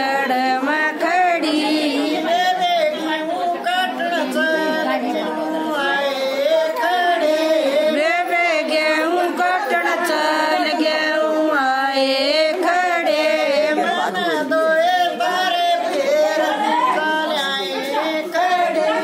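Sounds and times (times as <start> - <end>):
woman singing unaccompanied: 0.0 - 19.0.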